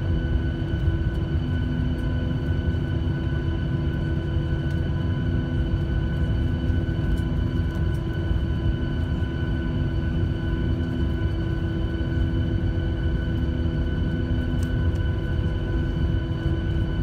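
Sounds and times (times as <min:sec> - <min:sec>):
engine whine: 0:00.0 - 0:17.0
jet engines idling low rumble: 0:00.0 - 0:17.0.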